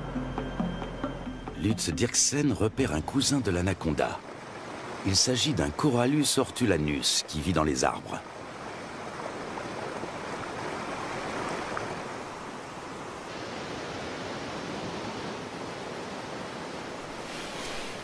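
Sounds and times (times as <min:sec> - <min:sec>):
fast-flowing river water: 0:01.7 - 0:18.0.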